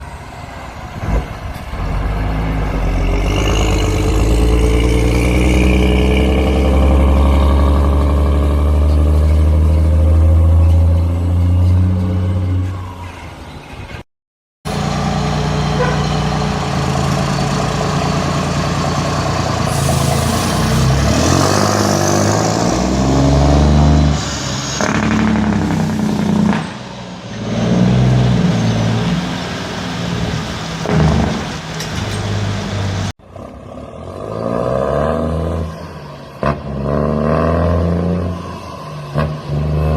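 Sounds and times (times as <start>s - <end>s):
trucks passing with engine brake: 0.0s - 14.0s, 14.7s - 39.9s.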